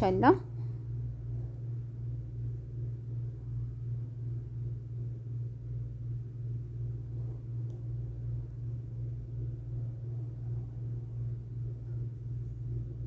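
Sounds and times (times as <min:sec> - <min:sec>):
throbbing low hum: 0:00.0 - 0:13.0.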